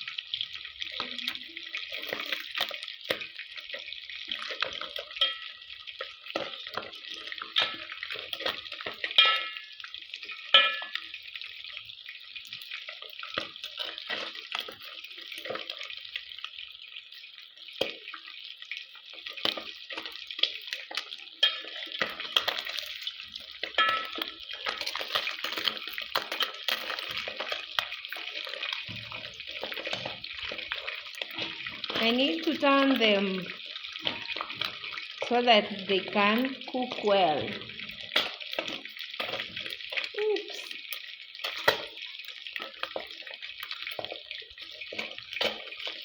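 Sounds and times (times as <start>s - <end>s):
fish deep-frying in oil: 0.0s - 46.0s.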